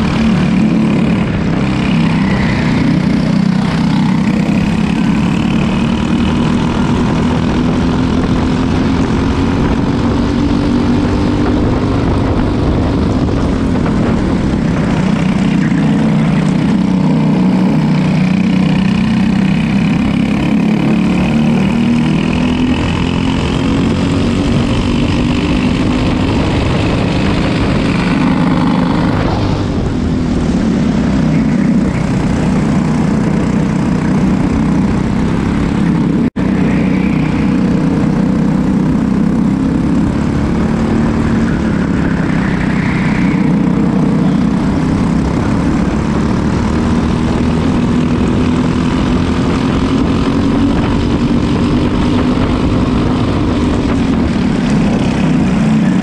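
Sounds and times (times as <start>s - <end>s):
go-kart engine racing: 0.0s - 56.0s.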